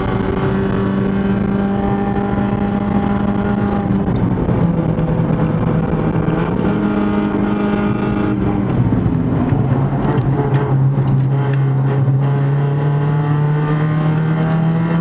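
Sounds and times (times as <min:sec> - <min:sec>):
race car engine drone: 0:00.0 - 0:15.0.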